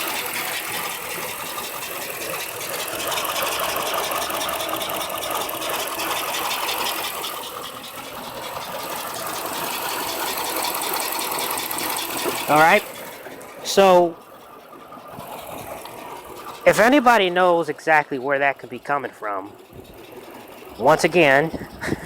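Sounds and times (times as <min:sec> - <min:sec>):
car engine idling rough: 0:00.0 - 0:22.0
fast engine ticking: 0:00.0 - 0:22.0.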